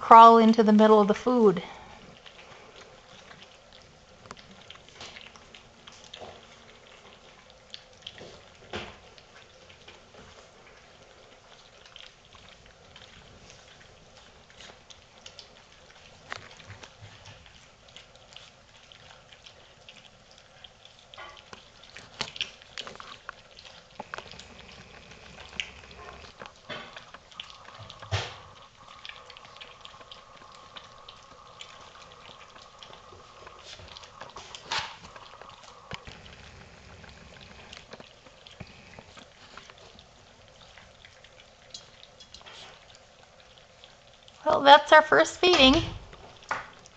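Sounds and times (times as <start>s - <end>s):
puppies lapping and chewing: 0.0s - 46.9s.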